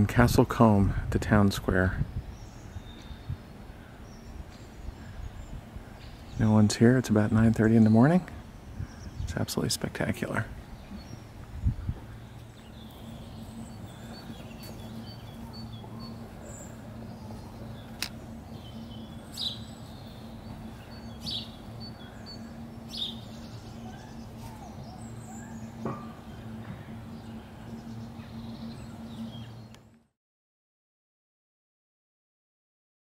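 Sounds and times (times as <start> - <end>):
steady low hum: 0.0 - 30.2
small birds chirping: 1.3 - 30.0.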